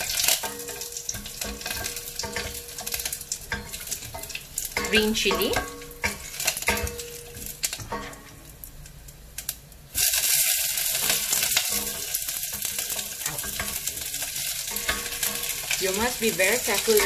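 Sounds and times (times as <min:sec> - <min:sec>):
loud sizzling hiss: 0:00.0 - 0:17.0
spices frying in hot oil: 0:00.0 - 0:17.0.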